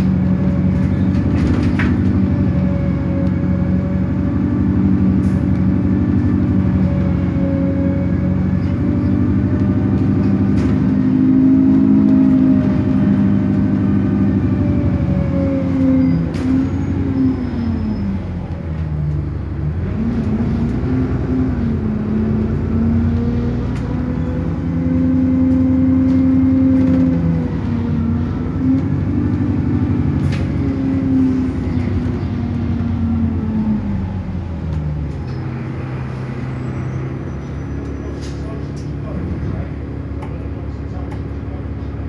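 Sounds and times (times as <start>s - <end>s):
bus engine drone: 0.0s - 42.0s.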